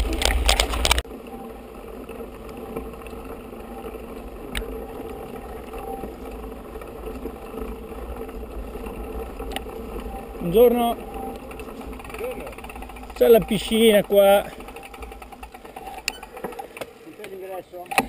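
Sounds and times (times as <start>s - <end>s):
bike tyres rumbling on gravel: 0.0s - 18.0s
quiet outdoor background: 0.0s - 18.0s.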